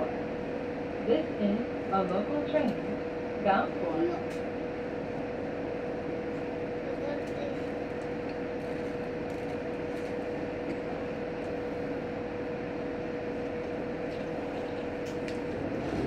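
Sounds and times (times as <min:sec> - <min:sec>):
railcar engine idling: 0:00.0 - 0:16.0.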